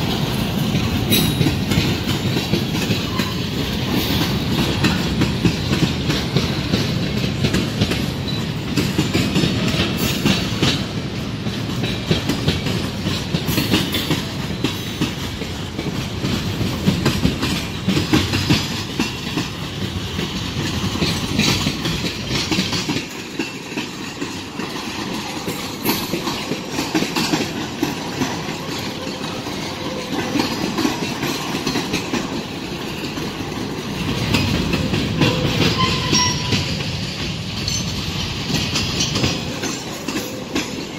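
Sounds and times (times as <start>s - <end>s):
train rumble: 0.0s - 40.9s
train wheels clacking over rail joints: 0.0s - 40.9s.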